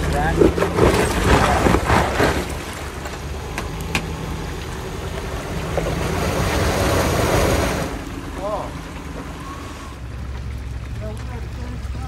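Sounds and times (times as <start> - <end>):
vehicle engine running: 0.0 - 12.0
rushing wind or tyre noise: 0.6 - 11.3.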